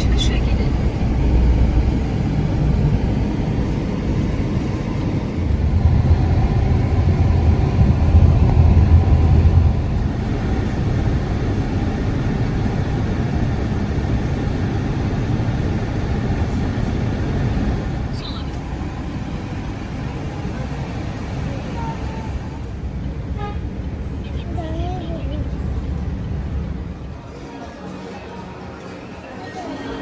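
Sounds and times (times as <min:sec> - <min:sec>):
low rumbling noise: 0:00.0 - 0:27.8.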